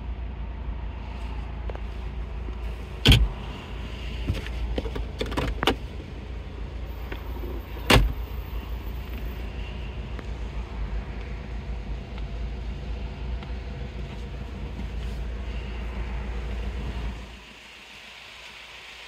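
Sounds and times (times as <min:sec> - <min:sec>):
steady low rumble: 0:00.0 - 0:18.7.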